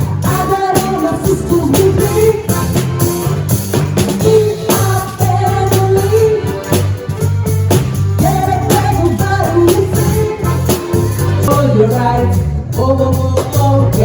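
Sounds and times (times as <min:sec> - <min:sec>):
person singing a melody: 0:00.0 - 0:02.8, 0:04.2 - 0:06.8, 0:08.2 - 0:14.0
bass line: 0:00.0 - 0:14.0
drum beats: 0:00.0 - 0:14.0.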